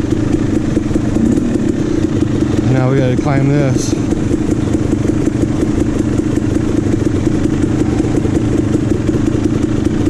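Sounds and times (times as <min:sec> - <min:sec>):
two-stroke engine idling: 0:00.0 - 0:10.0.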